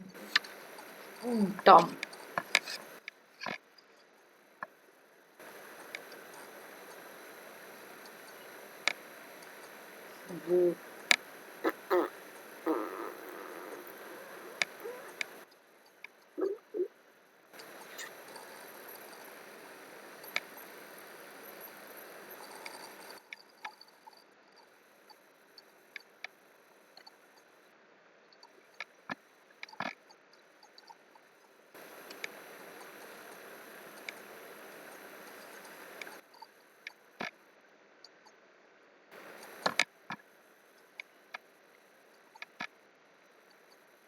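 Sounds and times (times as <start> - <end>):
faint microphone hiss: 0.0 - 44.0.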